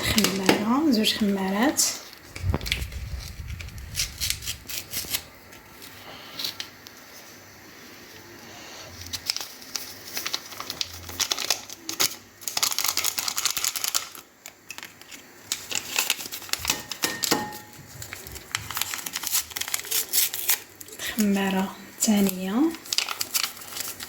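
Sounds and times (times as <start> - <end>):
sachet tearing and crinkling: 0.1 - 7.0, 8.9 - 24.0.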